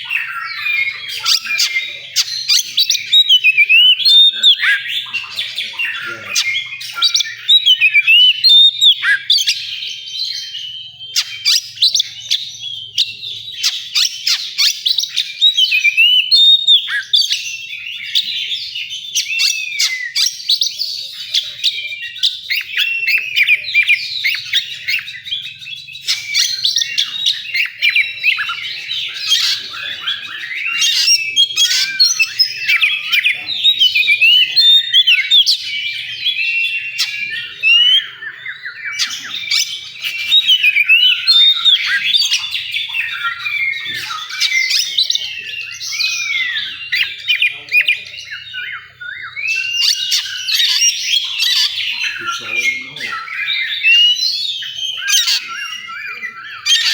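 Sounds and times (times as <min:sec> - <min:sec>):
bird singing whistled phrases: 0:00.0 - 0:56.9.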